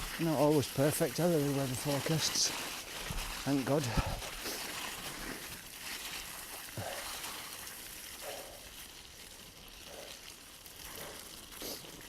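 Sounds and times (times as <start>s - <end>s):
bicycle tyres rolling through slush: 0.0s - 12.0s.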